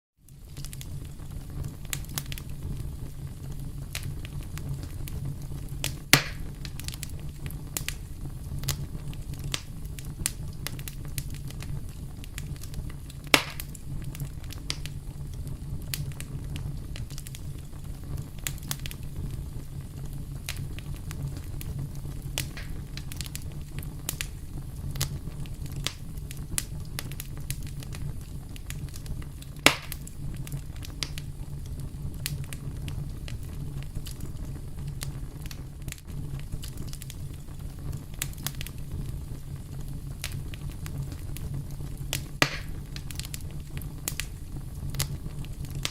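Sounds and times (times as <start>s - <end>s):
wood fire crackling: 0.2s - 45.9s
loud fire pops: 0.3s - 45.9s.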